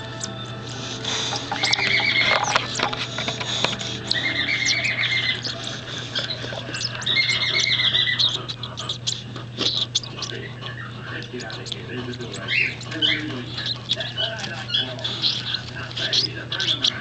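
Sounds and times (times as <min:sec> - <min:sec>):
steady low hum: 0:00.0 - 0:17.0
baby cockatiel squawking: 0:01.2 - 0:17.0.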